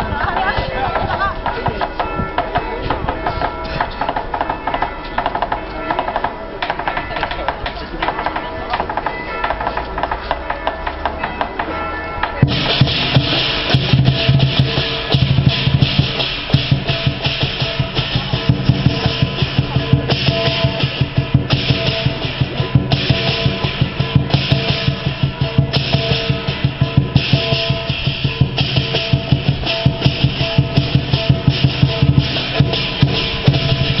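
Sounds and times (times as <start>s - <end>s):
cymbals clashing: 0.0s - 34.0s
drum beaten fast: 0.0s - 34.0s.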